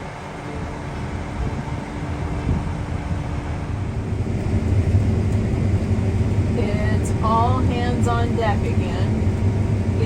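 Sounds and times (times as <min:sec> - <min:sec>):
combine harvester humming: 0:00.0 - 0:10.0.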